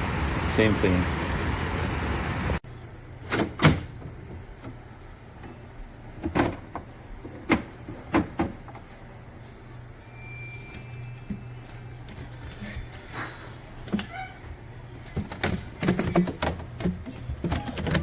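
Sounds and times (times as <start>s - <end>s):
air conditioner fan blowing: 0.0s - 18.0s.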